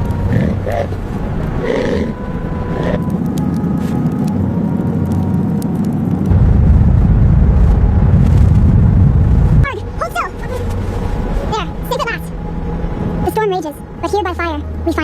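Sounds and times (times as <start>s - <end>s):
strong storm wind blowing: 0.0s - 14.0s.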